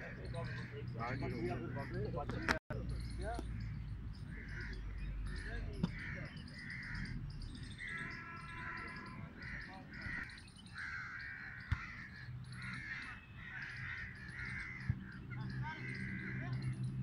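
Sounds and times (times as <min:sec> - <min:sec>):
small birds chirping: 0:00.0 - 0:17.0
crows cawing: 0:00.1 - 0:02.6, 0:03.3 - 0:17.0.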